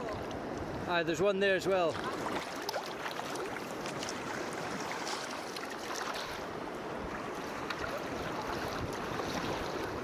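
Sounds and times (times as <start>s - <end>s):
water lapping against kayak hull: 1.9s - 10.0s.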